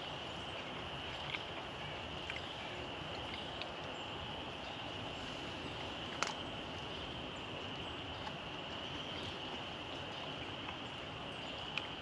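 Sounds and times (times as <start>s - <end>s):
woodland background hiss: 0.0s - 12.0s.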